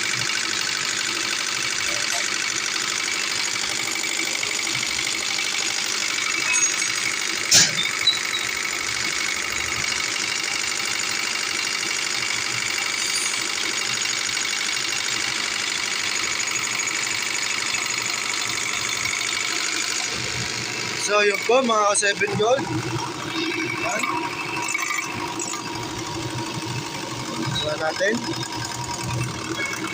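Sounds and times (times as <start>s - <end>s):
pump mechanical whir: 0.0s - 29.9s.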